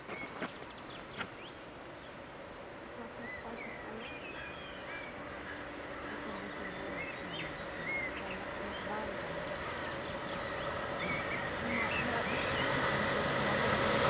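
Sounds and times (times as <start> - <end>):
low steady hum: 0.0 - 14.0
small birds chirping: 0.0 - 14.0.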